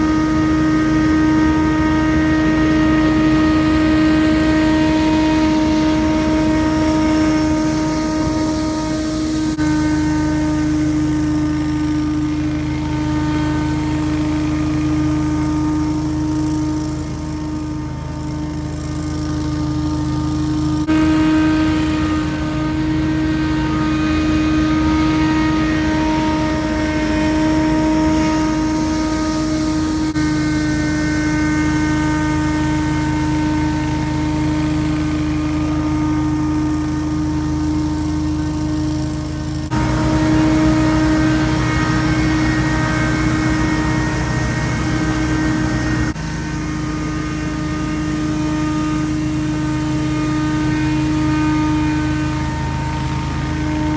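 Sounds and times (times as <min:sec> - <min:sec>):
leaf blower droning: 0:00.0 - 0:53.9.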